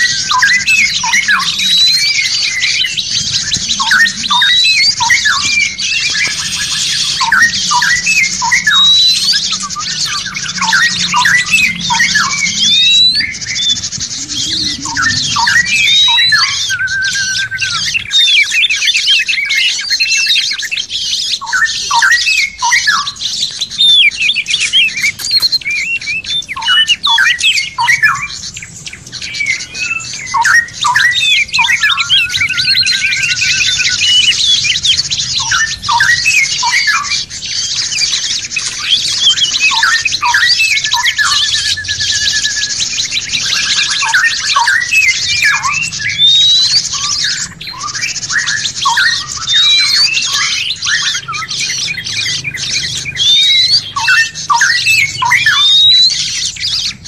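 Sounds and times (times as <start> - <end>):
high bird chirring: 0.0 - 57.0
songbirds whistling: 0.0 - 57.0.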